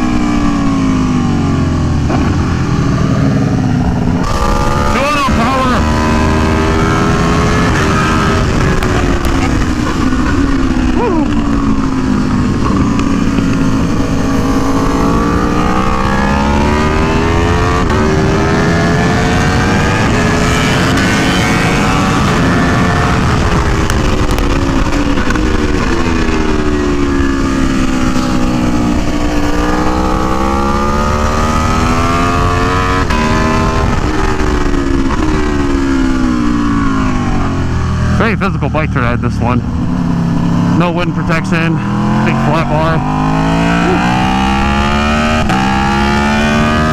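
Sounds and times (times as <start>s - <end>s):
wind noise: 0.0s - 38.2s
motorcycle engine revving: 0.0s - 46.9s.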